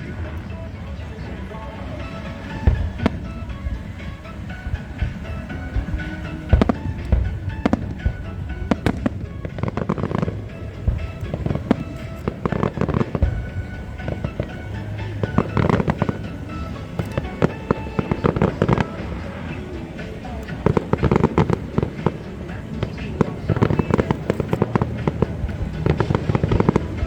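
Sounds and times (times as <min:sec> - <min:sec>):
fireworks bangs and crackles: 0:00.0 - 0:27.0
music: 0:00.0 - 0:27.0.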